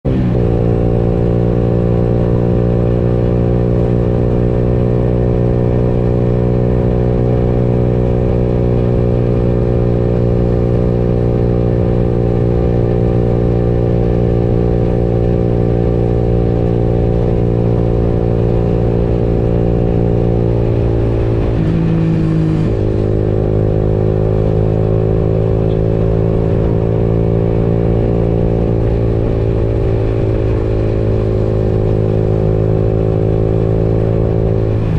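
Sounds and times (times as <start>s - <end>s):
motorcycle engine while riding: 0.0s - 34.9s.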